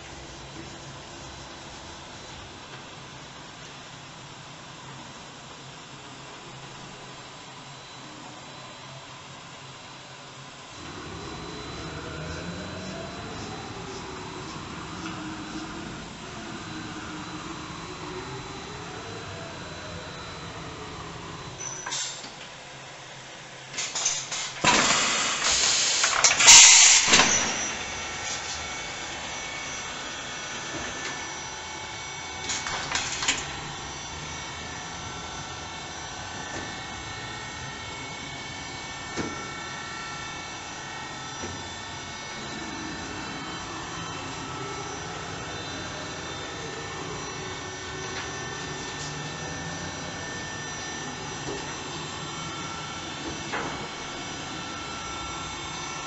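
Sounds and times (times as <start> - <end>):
machine hum with whining tones: 0.0 - 56.0.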